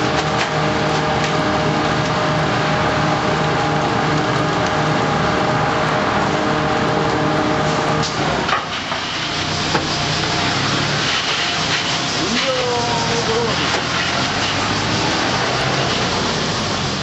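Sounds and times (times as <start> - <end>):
garbage truck mechanical hum: 0.0 - 17.0.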